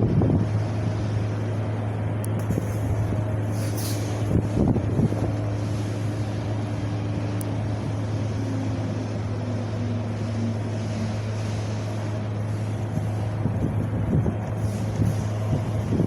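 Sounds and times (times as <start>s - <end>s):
constant low hum: 0.0s - 16.0s
wind blowing: 0.0s - 16.0s.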